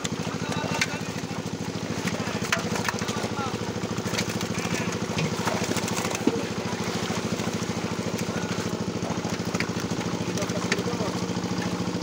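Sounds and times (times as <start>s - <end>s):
fish splashing in a net: 0.0s - 12.0s
small engine throbbing: 0.0s - 12.0s.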